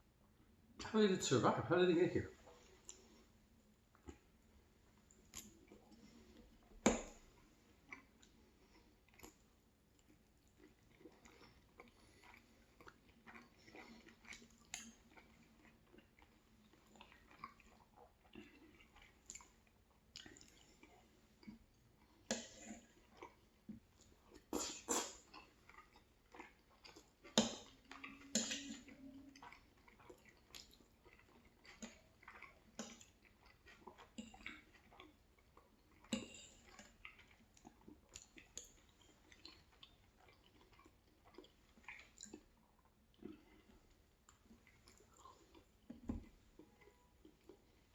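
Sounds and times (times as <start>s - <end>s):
person chewing: 5.0s - 47.9s.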